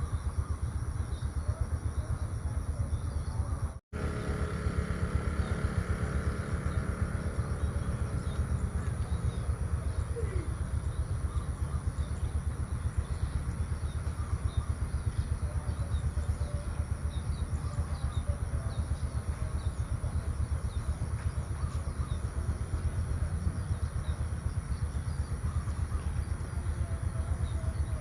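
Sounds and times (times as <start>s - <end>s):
loud steady low rumble: 0.0s - 28.0s
small birds chirping: 0.0s - 28.0s.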